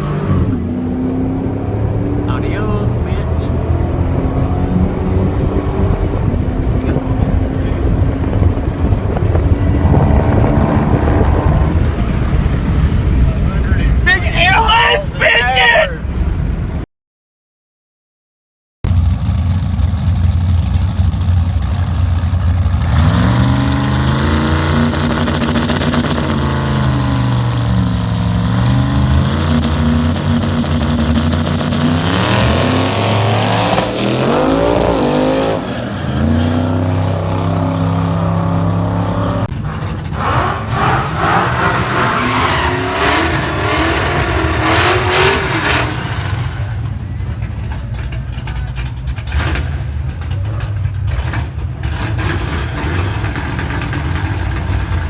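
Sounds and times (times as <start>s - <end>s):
car engine revving: 0.0s - 13.9s, 18.9s - 55.0s.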